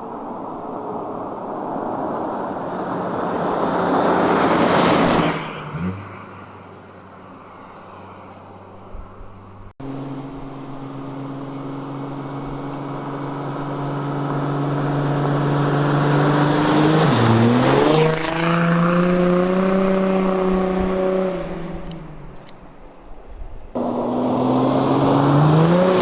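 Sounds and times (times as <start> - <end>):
car engine driving by: 0.2 - 22.4, 23.8 - 26.0.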